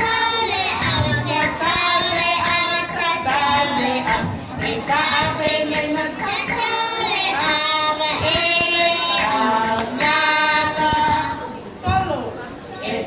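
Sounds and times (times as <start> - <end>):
children and women singing: 0.0 - 12.1, 12.7 - 13.0.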